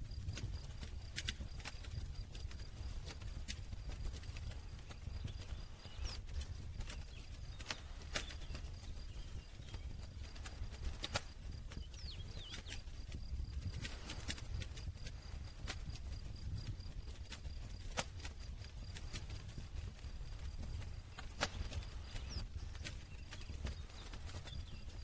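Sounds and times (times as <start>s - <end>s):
low rumble of burning wood: 0.0s - 25.0s
campfire crackling and popping: 0.1s - 25.0s.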